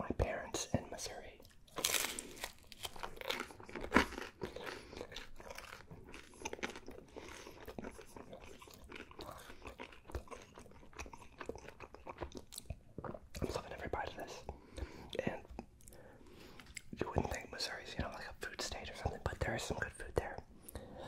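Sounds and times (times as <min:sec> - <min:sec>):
chewing pizza: 0:01.4 - 0:18.3.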